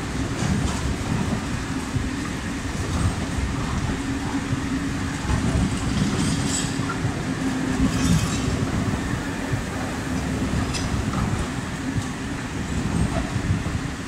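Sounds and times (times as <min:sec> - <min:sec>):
freight train wheels rumbling: 0:00.0 - 0:14.0
locomotive hum: 0:00.0 - 0:14.0
wagons knocking: 0:00.0 - 0:14.0.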